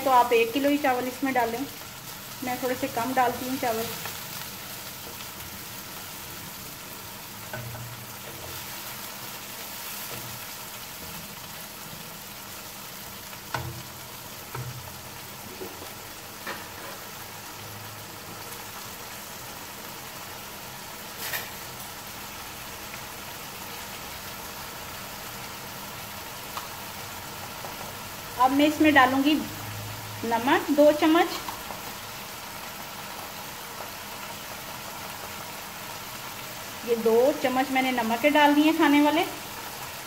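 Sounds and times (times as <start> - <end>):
chicken frying in hot oil: 0.0 - 40.0.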